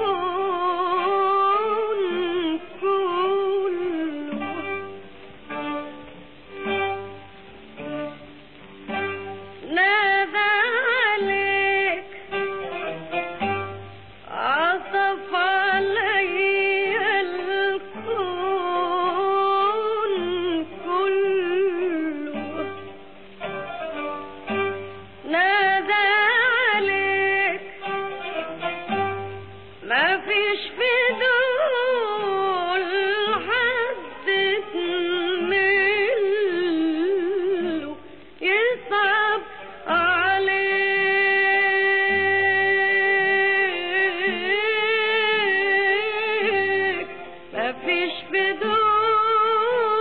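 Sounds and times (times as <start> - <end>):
plucked and bowed strings: 0.0 - 50.0.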